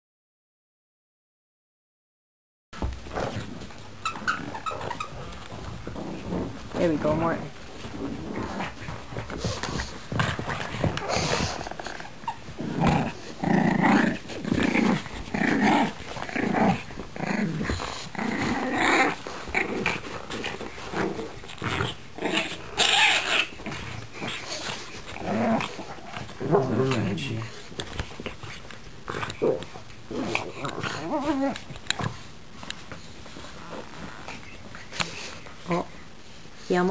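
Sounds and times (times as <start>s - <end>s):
dogs growling in play: 2.8s - 36.9s.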